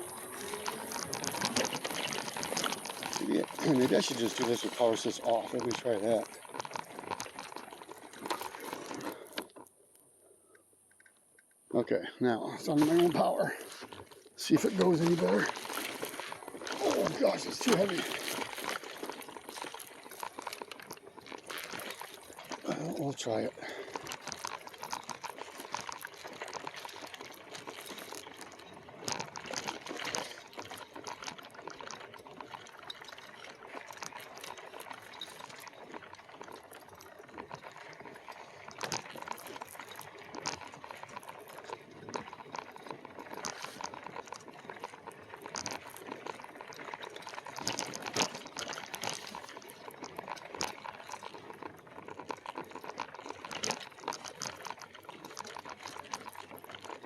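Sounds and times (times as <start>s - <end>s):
ice clinking: 0.0s - 9.6s, 12.3s - 57.0s
water sloshing in a container: 0.0s - 9.7s, 11.7s - 57.0s
bike rattling over rough trail: 0.0s - 9.9s, 11.2s - 57.0s.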